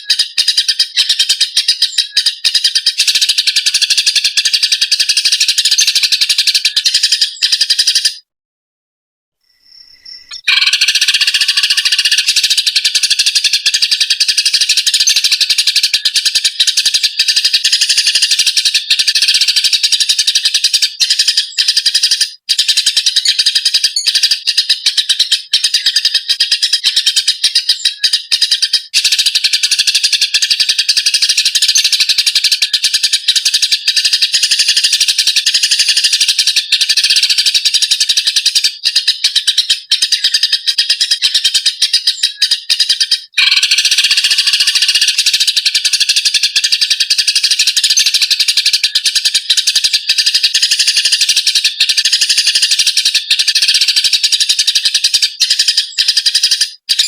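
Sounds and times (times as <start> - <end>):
sparrows chirping and chattering: 0.0 - 8.3, 9.5 - 57.0.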